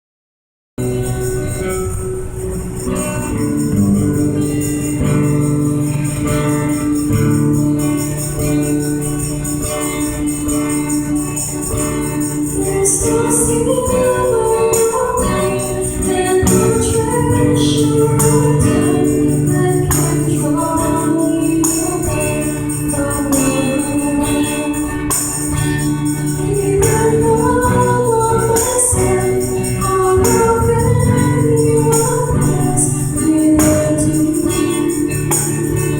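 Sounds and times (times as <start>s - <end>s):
voices singing: 1.3s - 35.9s.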